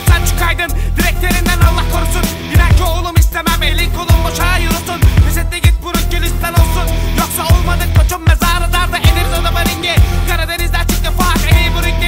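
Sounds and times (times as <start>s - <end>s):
hip hop vocals: 0.0s - 12.0s.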